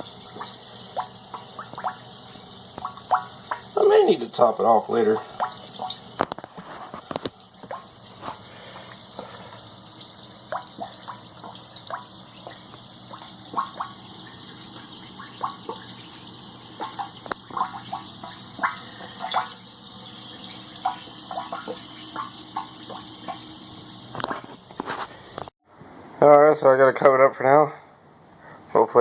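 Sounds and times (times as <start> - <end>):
liquid dripping into a tub: 0.0 - 25.5.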